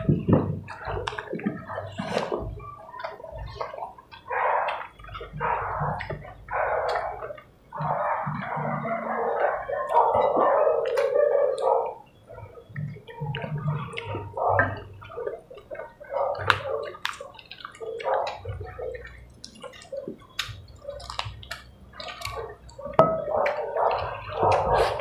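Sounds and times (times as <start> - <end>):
wet chewing and lip-smacking: 0.0 - 25.0.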